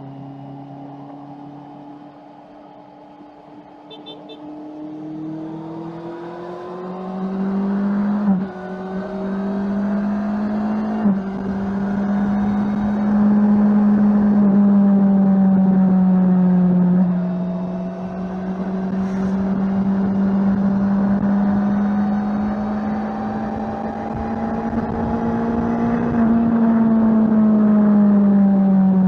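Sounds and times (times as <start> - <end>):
motorcycle engine accelerating: 4.0 - 29.0.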